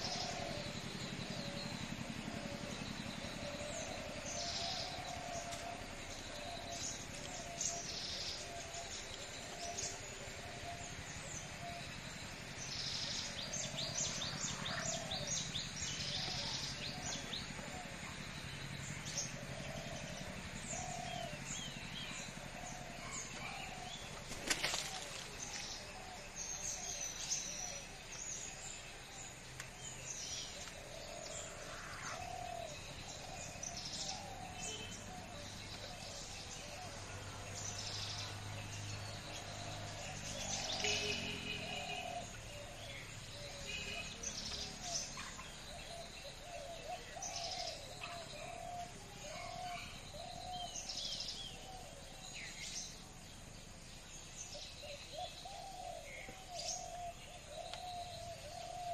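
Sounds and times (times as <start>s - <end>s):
birds chirping and calling: 0.0s - 58.9s.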